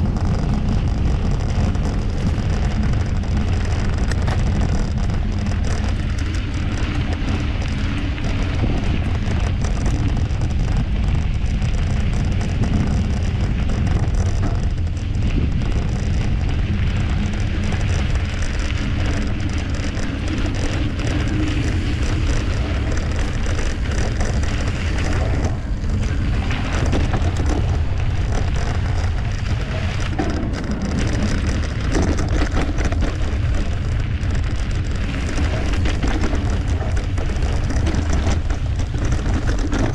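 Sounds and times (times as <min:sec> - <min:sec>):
bike rattling: 0:00.0 - 0:39.9
bike tyres crunching on dirt: 0:00.0 - 0:39.9
low rumble: 0:00.0 - 0:39.9.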